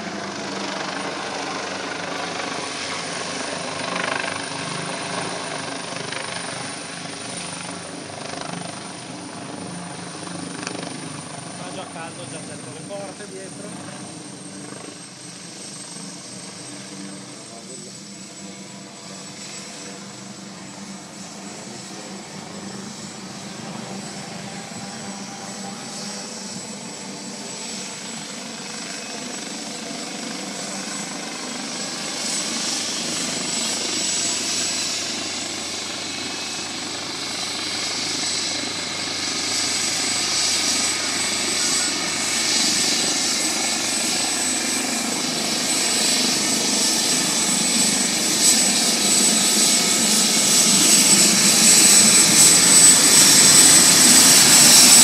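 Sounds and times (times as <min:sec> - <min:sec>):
helicopter rotor: 0:00.0 - 0:55.0
high turbine whine: 0:00.0 - 0:55.0.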